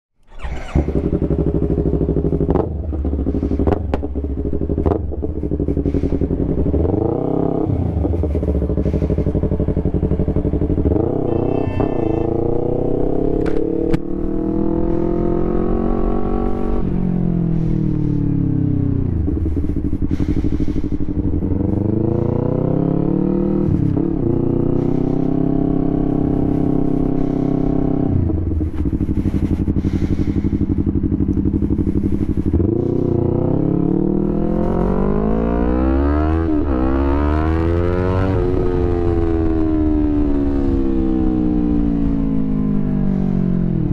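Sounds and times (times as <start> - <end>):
motorcycle engine revving: 0.2 - 43.9.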